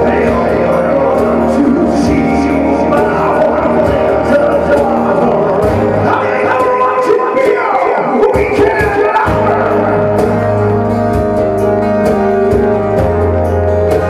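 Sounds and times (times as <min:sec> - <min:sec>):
held keyboard chords: 0:00.0 - 0:07.5, 0:08.2 - 0:14.0
acoustic guitars: 0:00.0 - 0:14.0.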